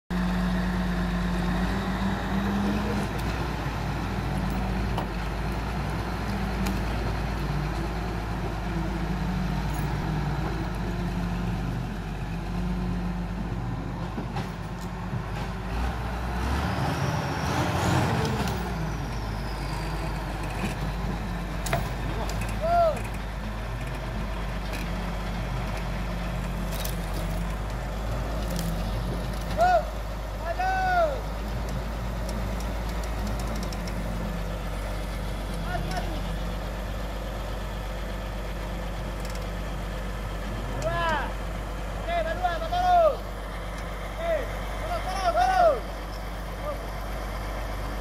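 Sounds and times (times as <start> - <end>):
diesel engine revving: 0.1 - 48.0.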